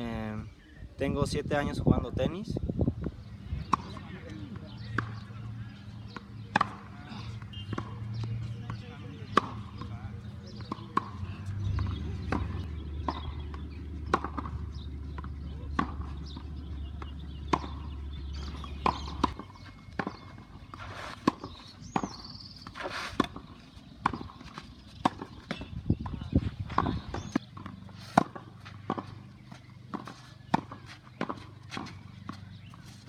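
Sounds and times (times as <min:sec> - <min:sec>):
racket hitting tennis ball: 0:03.5 - 0:33.0
ball bouncing: 0:03.6 - 0:33.0.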